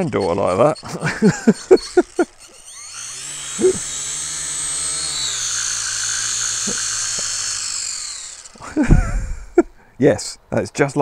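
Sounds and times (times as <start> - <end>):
toy drone motors whining: 0.0 - 9.8.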